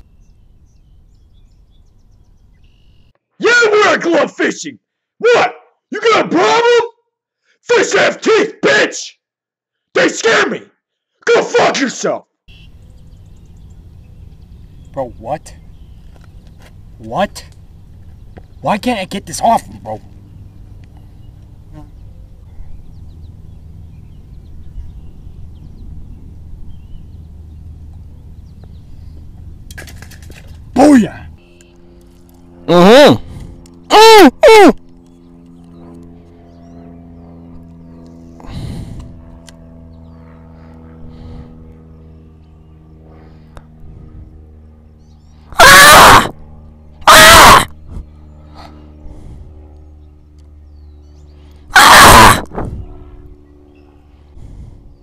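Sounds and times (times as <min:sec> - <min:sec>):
low hum: 0:00.0 - 0:03.1, 0:12.5 - 0:55.0.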